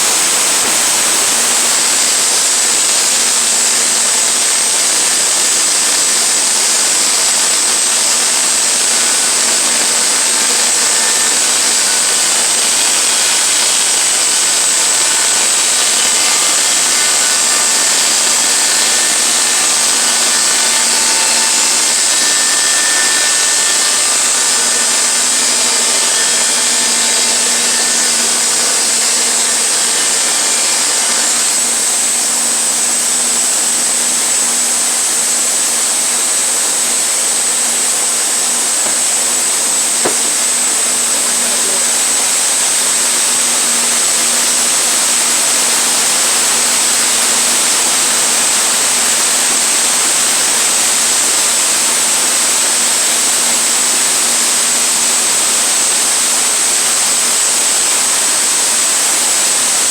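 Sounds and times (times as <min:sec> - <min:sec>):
sawmill running with high whine: 0:00.0 - 0:59.9.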